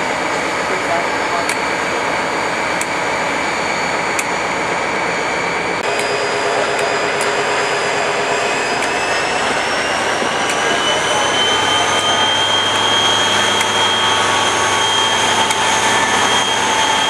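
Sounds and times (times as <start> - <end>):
diesel locomotive idling: 0.0 - 17.0
turbocharger whine: 0.0 - 17.0.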